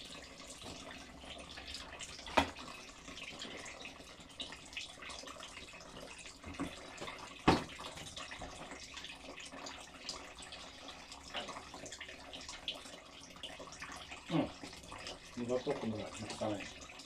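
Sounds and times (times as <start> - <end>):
liquid trickling and dripping: 0.0 - 17.0.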